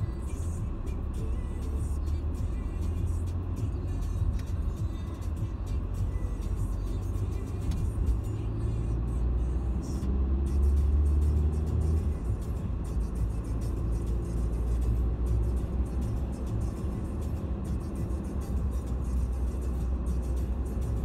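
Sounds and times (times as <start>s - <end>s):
road and engine rumble in car: 0.0s - 21.0s.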